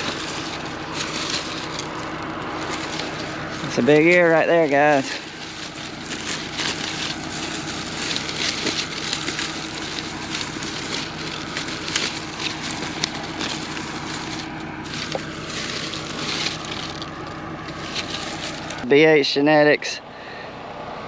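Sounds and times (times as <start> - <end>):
dry corn husks crackling: 0.0 - 19.4
combine engine idling hum: 0.0 - 21.0.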